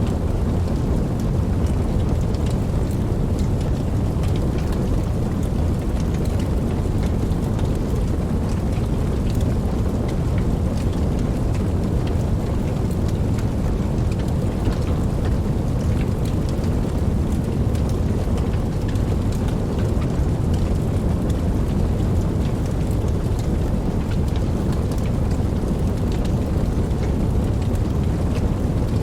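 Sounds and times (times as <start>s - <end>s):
heavy rain: 0.0s - 29.0s
raindrop ticks: 0.0s - 29.0s.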